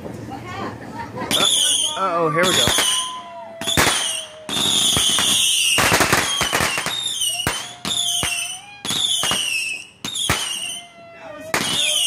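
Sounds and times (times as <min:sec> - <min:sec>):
firework crackling: 0:01.1 - 0:12.0
falling firework whistles: 0:01.3 - 0:12.0
firework bangs: 0:01.3 - 0:12.0.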